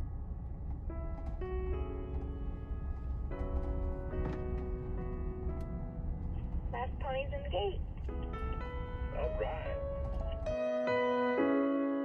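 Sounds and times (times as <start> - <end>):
low rumble: 0.0 - 10.6
piano chords: 0.0 - 12.0.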